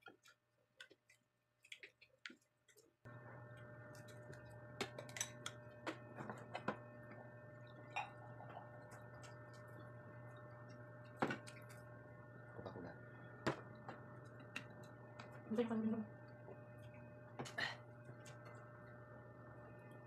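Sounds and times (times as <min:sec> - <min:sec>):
steady low hum: 0:03.1 - 0:20.0.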